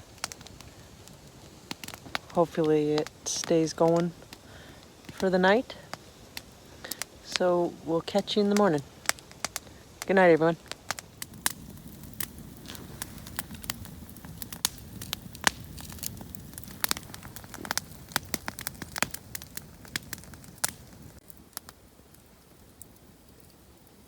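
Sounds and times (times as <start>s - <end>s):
campfire crackling and popping: 0.0s - 24.0s
rush of burning logs: 0.0s - 24.0s.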